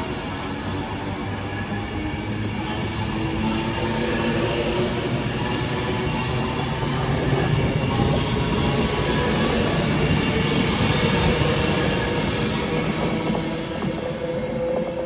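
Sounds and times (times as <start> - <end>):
passenger train running: 0.0 - 15.0.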